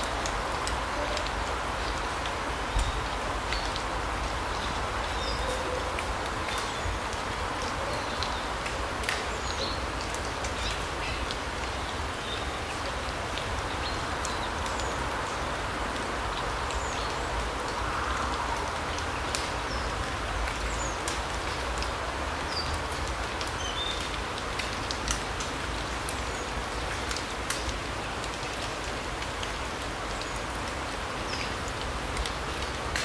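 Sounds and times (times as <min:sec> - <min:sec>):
light sharp ticks: 0:00.0 - 0:33.0.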